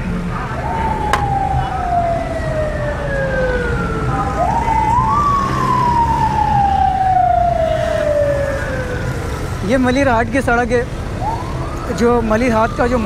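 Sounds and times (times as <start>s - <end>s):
siren wailing: 0.4s - 9.3s, 11.2s - 13.0s.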